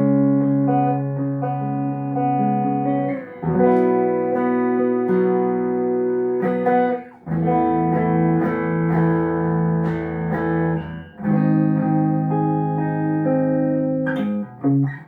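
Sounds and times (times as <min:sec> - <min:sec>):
guitar chords ringing: 0:00.0 - 0:15.0.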